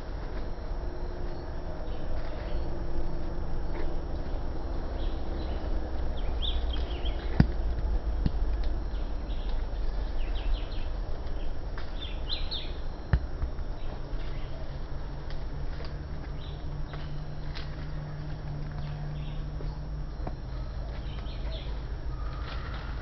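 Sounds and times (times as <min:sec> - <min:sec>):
steady low rumble: 0:00.0 - 0:23.0
small birds chirping: 0:01.1 - 0:15.2, 0:15.8 - 0:23.0.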